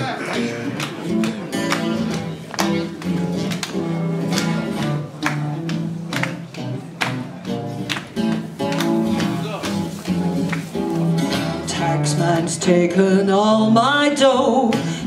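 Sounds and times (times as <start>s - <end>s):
guitar picking and strumming: 0.0s - 15.0s.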